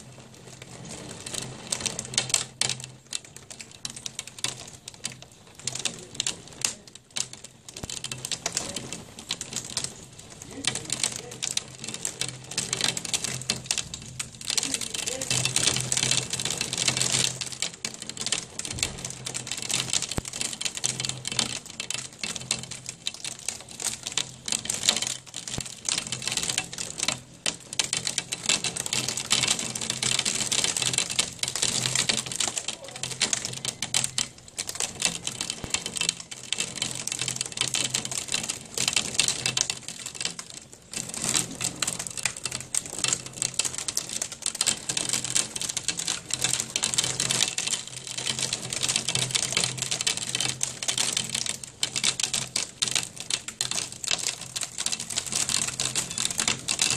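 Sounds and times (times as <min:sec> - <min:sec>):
hail clattering: 0:00.0 - 0:56.9
pouring rain: 0:00.0 - 0:56.9.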